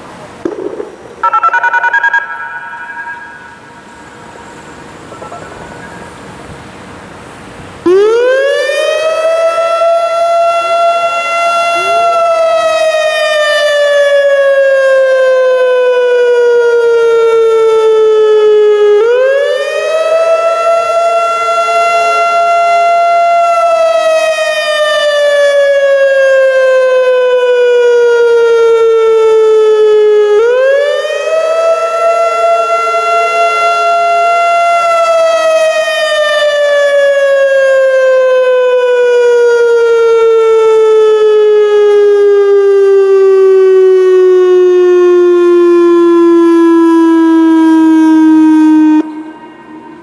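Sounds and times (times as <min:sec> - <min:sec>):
warning siren wailing: 0:00.4 - 0:07.2, 0:07.8 - 0:50.0.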